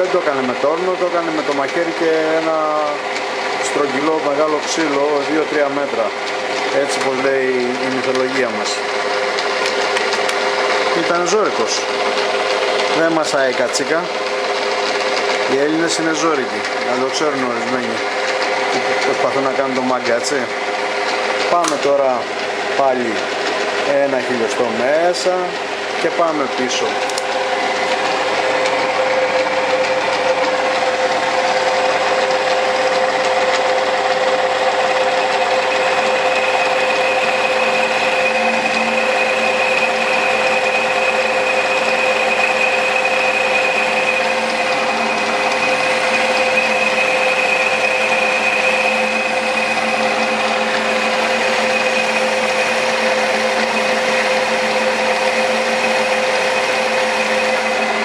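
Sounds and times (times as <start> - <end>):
high-pitched cutting whine: 0.0 - 58.0
metal lathe whining: 0.0 - 58.0.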